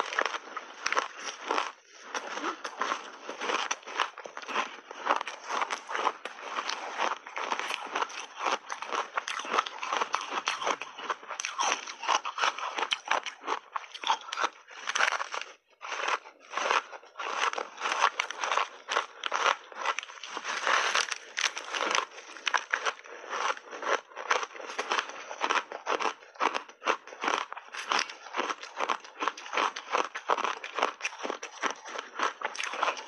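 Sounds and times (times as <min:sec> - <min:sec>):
ice crunching while chewed: 0:00.0 - 0:33.0.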